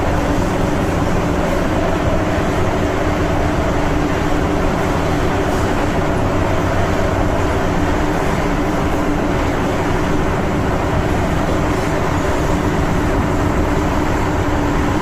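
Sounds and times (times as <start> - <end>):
constant train hum: 0.0 - 15.0
train wheels rumbling on rail: 0.0 - 15.0.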